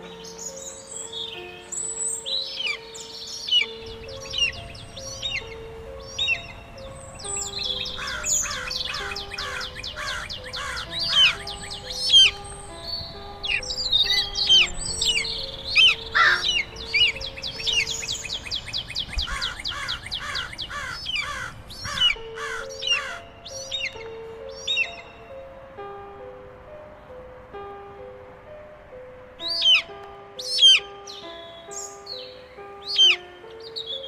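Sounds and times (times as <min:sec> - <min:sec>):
birds chirping: 0:00.0 - 0:28.8, 0:29.4 - 0:34.0
slow melody of held notes: 0:00.0 - 0:34.0.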